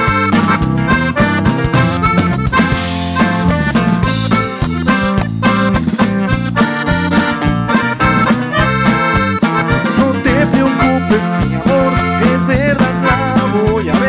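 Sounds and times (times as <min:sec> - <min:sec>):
accordion: 0:00.0 - 0:14.0
drum kit: 0:00.0 - 0:14.0
plucked string instrument: 0:00.0 - 0:14.0.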